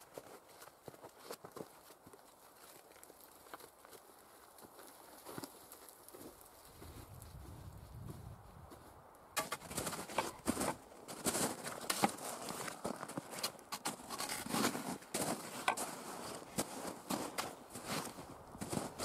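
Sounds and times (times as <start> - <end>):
footsteps crunching through snow: 0.0 - 19.0.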